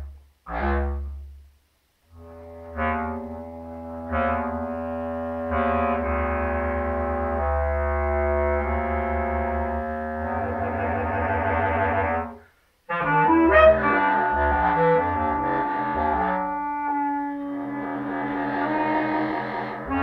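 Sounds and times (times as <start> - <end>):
contrabass clarinet: 0.0 - 1.5, 2.1 - 20.0
bass clarinet: 0.0 - 20.0.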